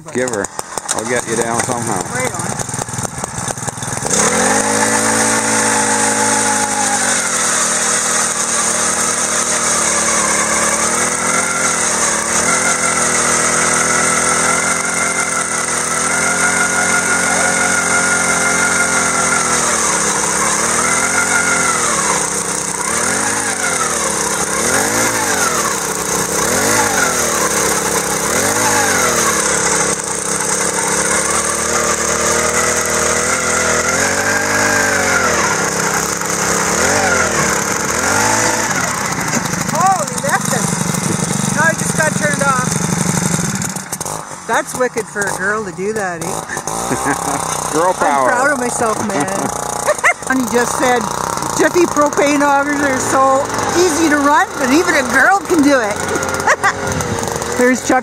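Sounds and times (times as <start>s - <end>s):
ice auger engine running: 0.0s - 58.0s.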